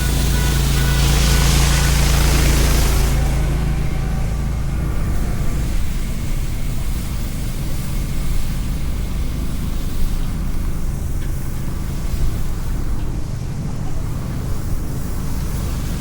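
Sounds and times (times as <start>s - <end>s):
city noise: 0.0s - 16.0s
motor vehicles humming: 0.0s - 16.0s.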